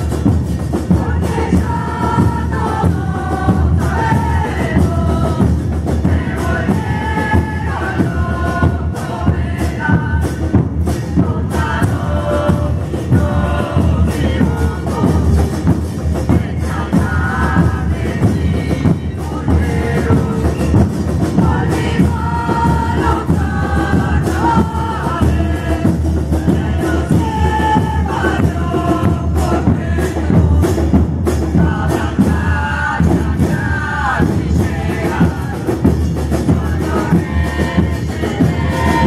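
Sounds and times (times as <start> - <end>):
bass drums with cymbals: 0.0 - 39.0
people singing: 0.0 - 39.0.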